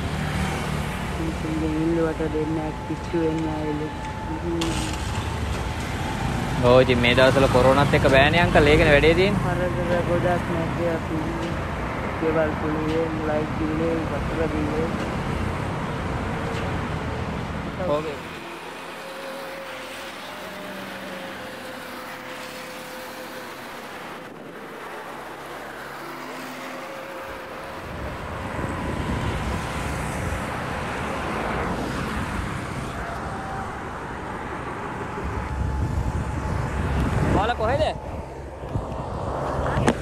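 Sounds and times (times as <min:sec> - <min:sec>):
low traffic rumble: 0:00.0 - 0:40.0.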